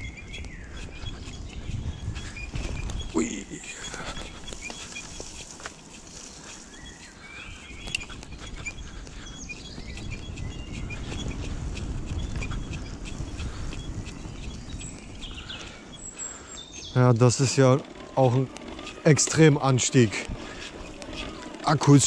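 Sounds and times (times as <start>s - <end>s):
bike clicks and rattles: 0.0s - 22.0s
bike rolling on trail rumble: 0.0s - 22.0s
birds chirping: 0.0s - 22.0s.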